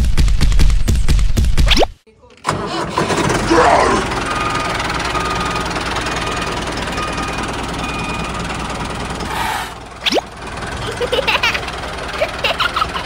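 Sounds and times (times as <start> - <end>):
tractor engine running: 2.3 - 13.0.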